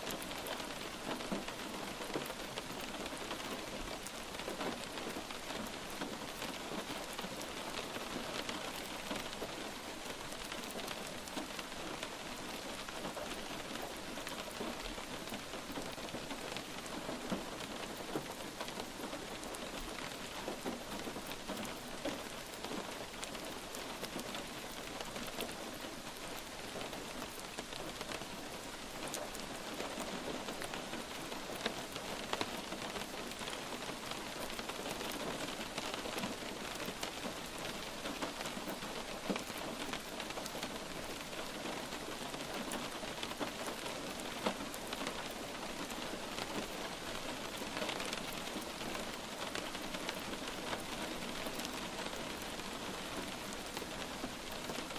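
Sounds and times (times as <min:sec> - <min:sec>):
light rain hiss: 0:00.0 - 0:54.9
raindrops pattering: 0:00.0 - 0:54.9.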